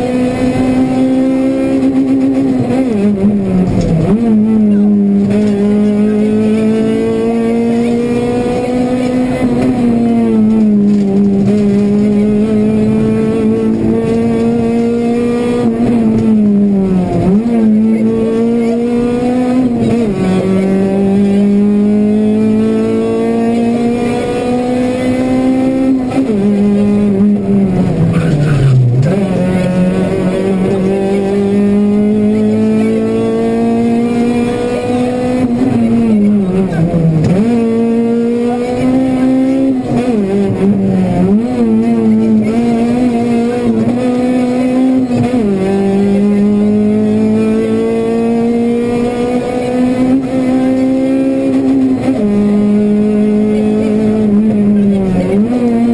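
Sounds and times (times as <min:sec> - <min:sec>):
car engine at high revs: 0:00.0 - 0:55.9.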